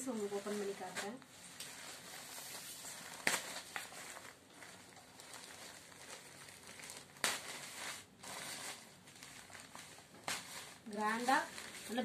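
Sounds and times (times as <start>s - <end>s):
fabric rustling and crinkling: 0.0s - 12.0s.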